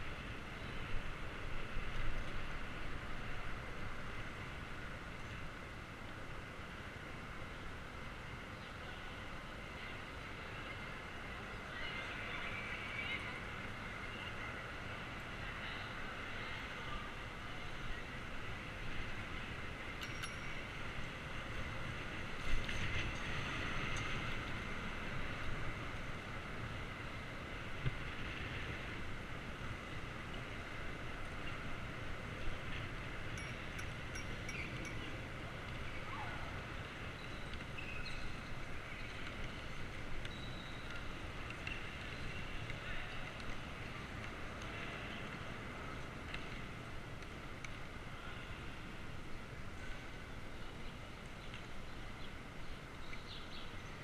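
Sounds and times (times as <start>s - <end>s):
bicycle rolling noise: 0.0s - 9.0s, 13.5s - 53.9s.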